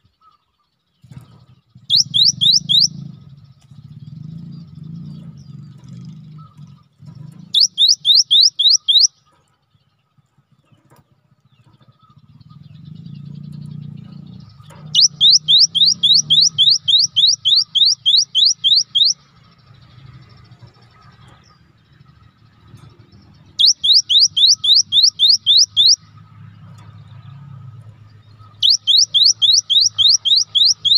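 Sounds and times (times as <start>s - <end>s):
bird whistling song: 1.1s - 9.4s, 11.7s - 30.9s.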